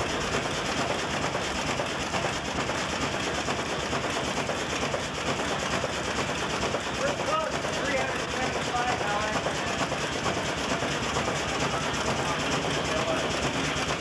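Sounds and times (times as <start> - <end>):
steam engine pump chuffing: 0.0 - 14.0.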